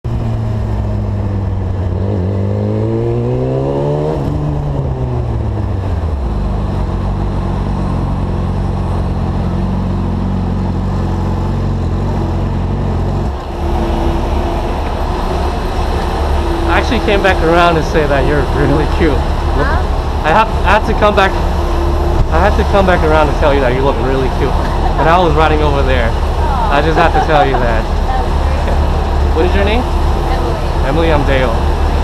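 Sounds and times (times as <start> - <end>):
sport bike engine accelerating: 0.1 - 32.0.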